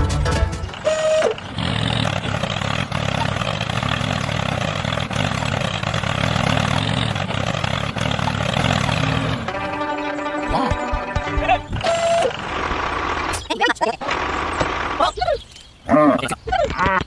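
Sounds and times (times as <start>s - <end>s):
engine starting and running: 0.0s - 15.4s.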